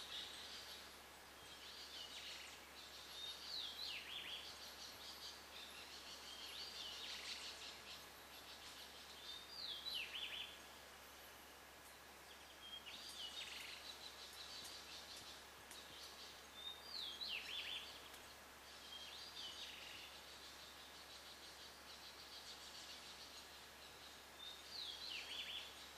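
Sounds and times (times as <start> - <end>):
faint birdsong: 0.0 - 25.9
steady hiss: 0.0 - 25.9.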